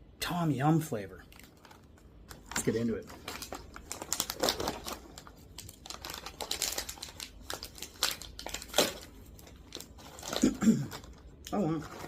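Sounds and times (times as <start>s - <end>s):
plastic bag crinkling: 1.3s - 12.0s.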